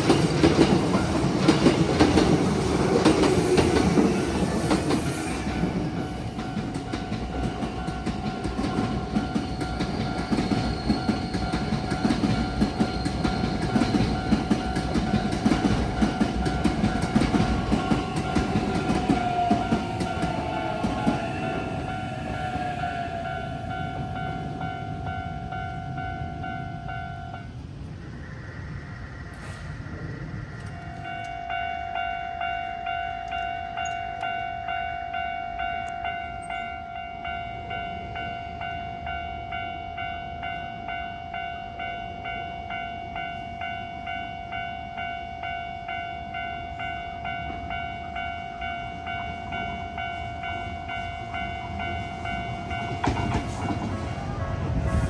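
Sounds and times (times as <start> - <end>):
level-crossing alarm ringing: 0.0 - 27.5, 30.7 - 55.0
train rumbling past: 0.0 - 35.8, 36.4 - 55.0.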